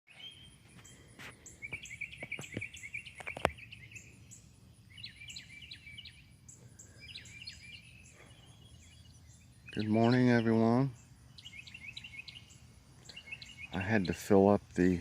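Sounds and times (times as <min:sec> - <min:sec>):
songbirds chirping: 0:00.1 - 0:15.0.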